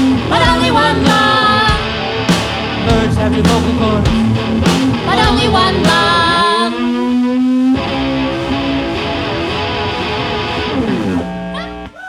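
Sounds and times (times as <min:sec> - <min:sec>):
electric guitar ringing chords: 0:00.0 - 0:11.9.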